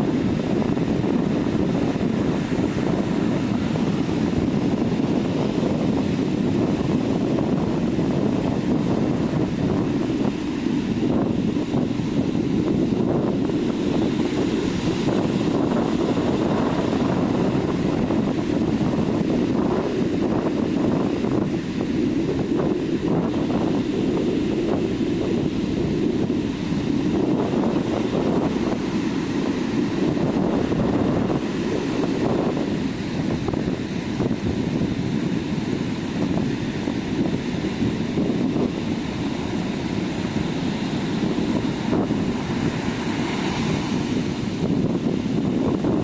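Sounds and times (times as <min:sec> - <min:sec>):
surf washing onto sand: 0:00.0 - 0:46.0
wind buffeting microphone: 0:00.0 - 0:46.0.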